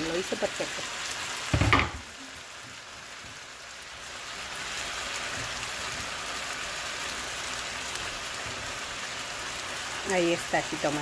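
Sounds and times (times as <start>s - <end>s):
chicken and potatoes sizzling in skillet: 0.0s - 11.0s.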